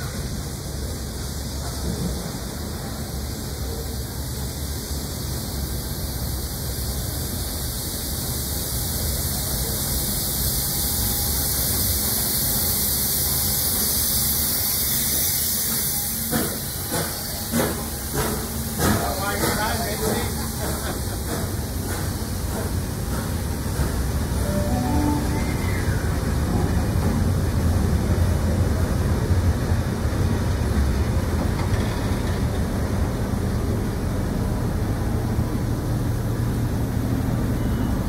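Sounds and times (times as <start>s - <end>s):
steam locomotive hissing: 0.0s - 38.0s.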